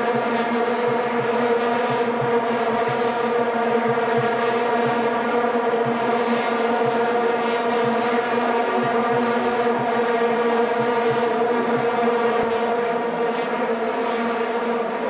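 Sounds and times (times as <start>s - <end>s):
vuvuzelas droning: 0.0s - 15.0s.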